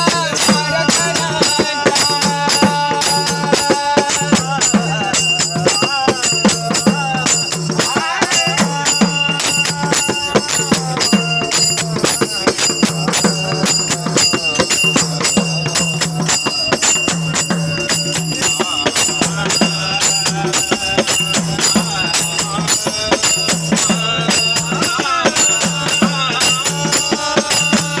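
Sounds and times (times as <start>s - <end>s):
group singing: 0.0s - 28.0s
hand cymbals clashing: 0.0s - 28.0s
repeating drum beat: 0.0s - 28.0s.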